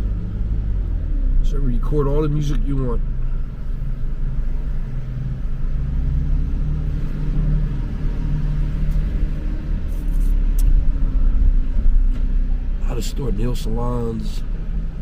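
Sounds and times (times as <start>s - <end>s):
car engine hum: 0.0s - 15.0s
road rumble: 0.0s - 15.0s.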